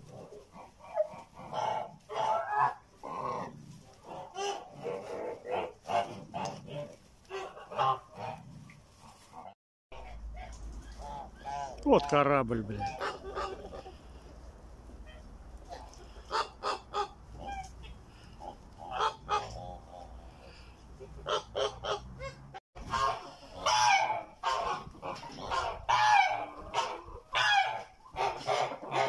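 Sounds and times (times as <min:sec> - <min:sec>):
geese honking: 0:00.0 - 0:29.0.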